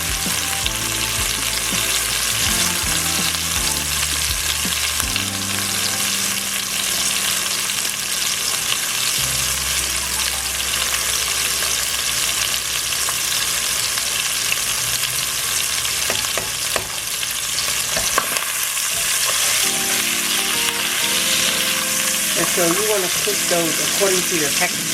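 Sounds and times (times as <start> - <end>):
sausage sizzling in a pan: 0.0 - 24.9.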